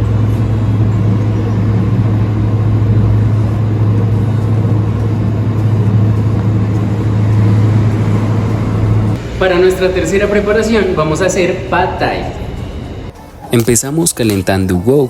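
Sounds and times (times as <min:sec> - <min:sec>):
low rumbling hum: 0:00.0 - 0:13.5.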